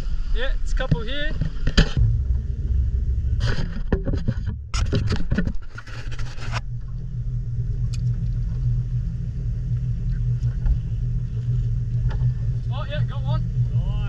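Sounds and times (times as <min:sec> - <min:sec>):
boat motor rumbling: 0:00.6 - 0:14.0.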